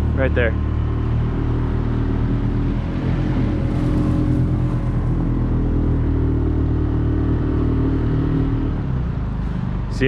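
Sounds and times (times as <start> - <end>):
boat motor running: 0.0 - 8.6.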